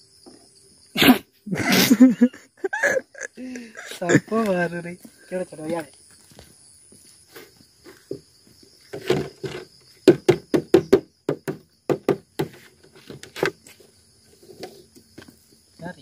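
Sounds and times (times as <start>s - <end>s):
cricket trill: 0.0s - 16.0s.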